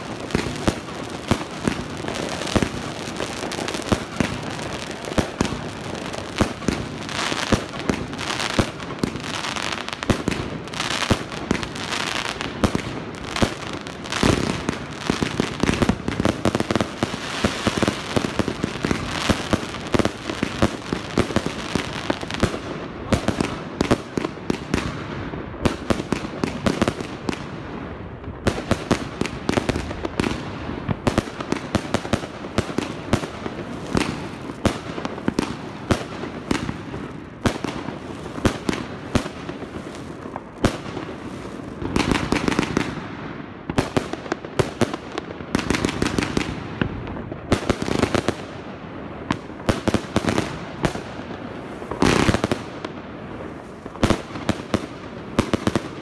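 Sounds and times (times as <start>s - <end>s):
crackling fireworks stars: 0.0s - 56.0s
fireworks shots and bursts: 0.0s - 56.0s.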